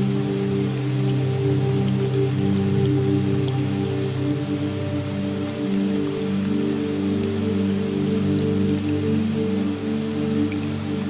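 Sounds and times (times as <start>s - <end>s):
slow ambient music: 0.0s - 11.0s
steady rain: 0.0s - 11.0s.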